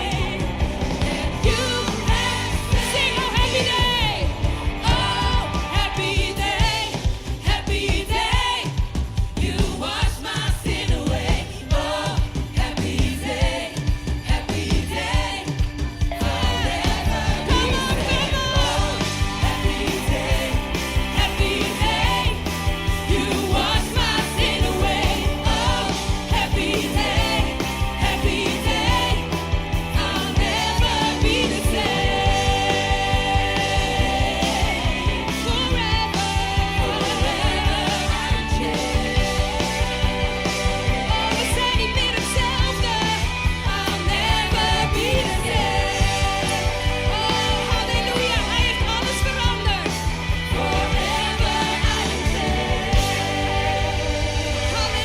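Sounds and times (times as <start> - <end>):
band with steady beat: 0.0 - 55.0
people singing: 0.0 - 55.0.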